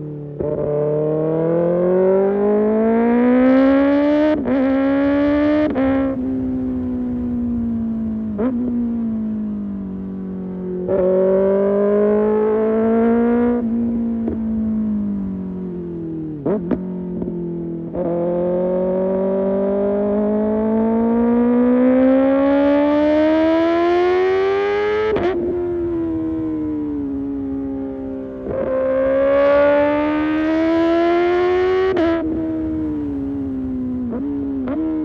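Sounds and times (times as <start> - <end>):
motorcycle engine revving: 0.3 - 35.0.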